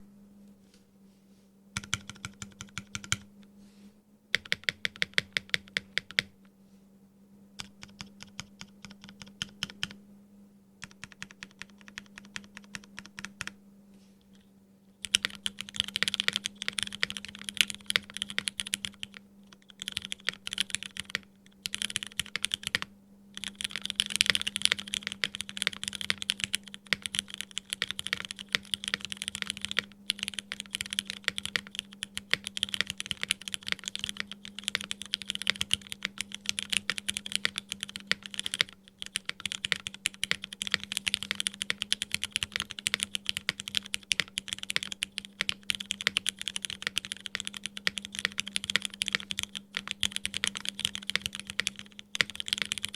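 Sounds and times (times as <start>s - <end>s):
faint steady hum: 0.0s - 52.9s
mechanical keyboard typing: 1.8s - 3.3s, 4.4s - 6.3s, 7.6s - 10.0s, 10.8s - 13.6s, 15.0s - 52.9s.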